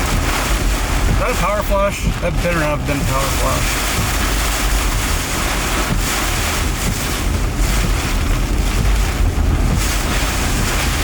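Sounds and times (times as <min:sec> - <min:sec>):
storm wind buffeting microphone: 0:00.0 - 0:11.0.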